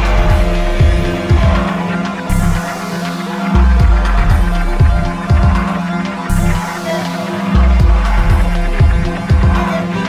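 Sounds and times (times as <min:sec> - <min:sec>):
music with held tones and deep bass: 0:00.0 - 0:10.0.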